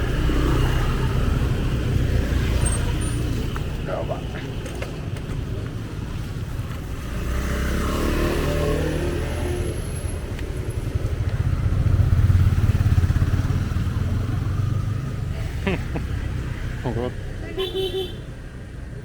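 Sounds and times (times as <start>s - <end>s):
motor scooters passing: 0.0s - 18.0s.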